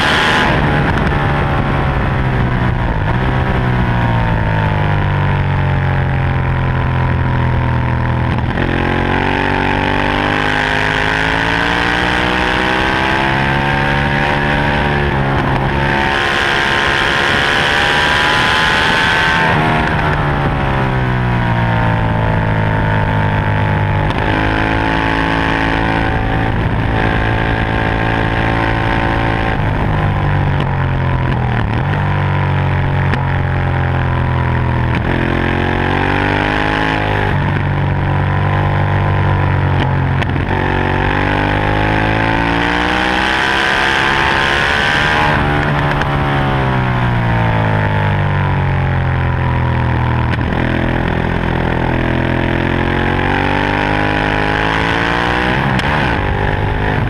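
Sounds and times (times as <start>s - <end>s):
motorcycle engine at racing speed: 0.0s - 57.0s.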